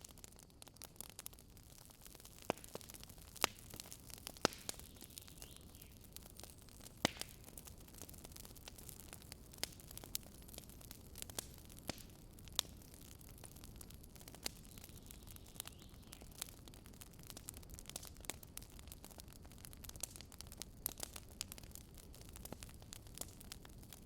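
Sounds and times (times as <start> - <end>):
campfire crackling: 0.0 - 24.0
soft steady hiss: 0.0 - 24.0.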